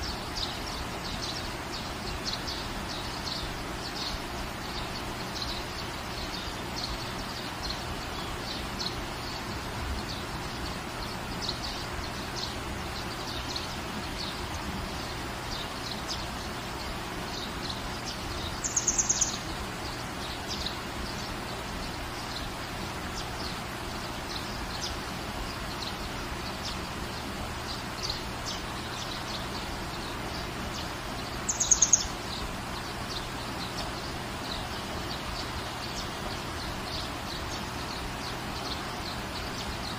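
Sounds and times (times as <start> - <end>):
small birds chirping faintly: 0.0 - 39.9
steady rain falling: 0.0 - 39.9.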